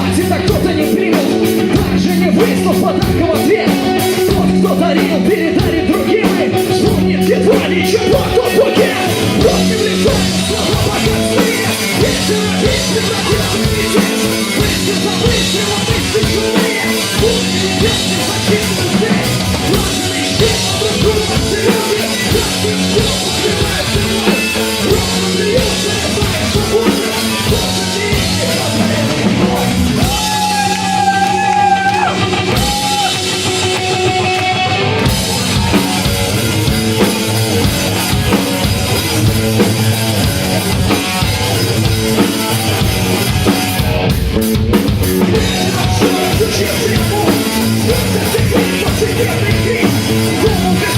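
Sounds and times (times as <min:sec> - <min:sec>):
drum kit: 0:00.0 - 0:50.9
electric guitar: 0:00.0 - 0:50.9.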